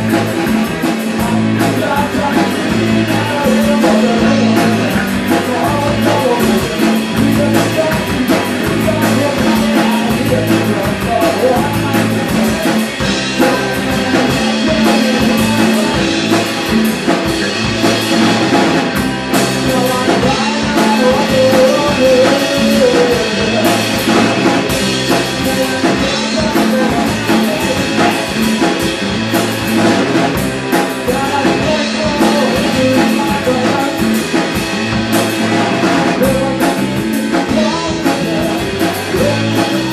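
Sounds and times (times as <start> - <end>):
person singing into a microphone: 0.0 - 29.0, 29.6 - 39.9
bass guitar: 0.0 - 39.9
drum kit: 0.0 - 39.9
electric guitar: 0.0 - 39.9.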